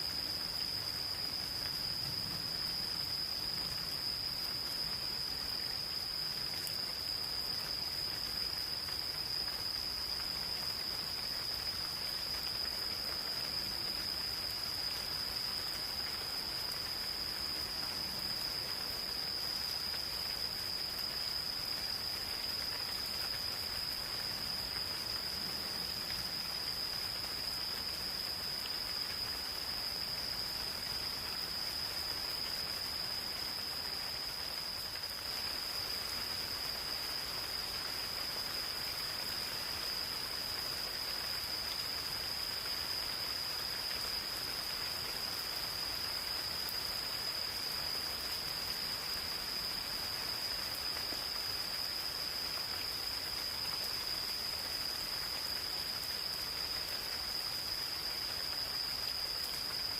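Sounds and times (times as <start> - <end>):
insects trilling: 0.0 - 59.9
light rain patter: 0.0 - 59.9.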